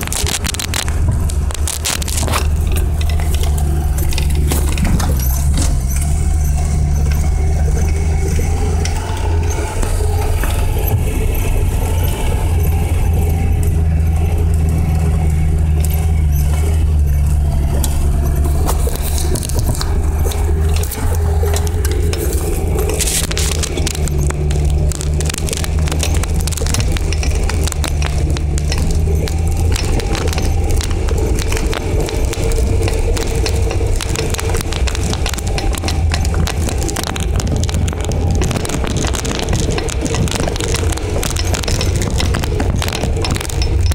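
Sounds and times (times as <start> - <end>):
car engine droning: 0.0 - 43.9
car rattling on bumps: 0.0 - 43.9.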